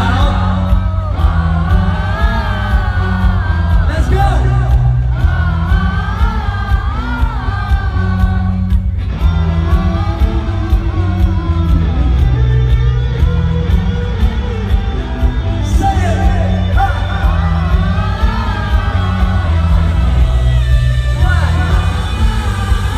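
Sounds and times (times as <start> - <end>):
pop-rock song over sound system: 0.0 - 22.9.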